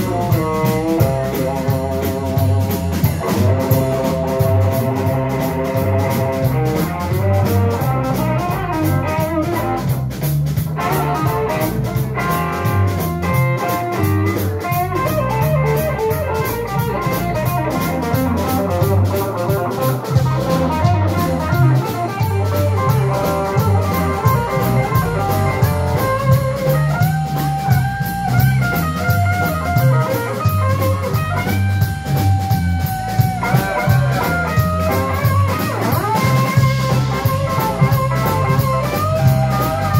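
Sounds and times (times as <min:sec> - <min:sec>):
bass guitar: 0:00.0 - 0:39.9
electric guitar lead lines: 0:00.0 - 0:39.9
steady drum beat: 0:00.0 - 0:39.9.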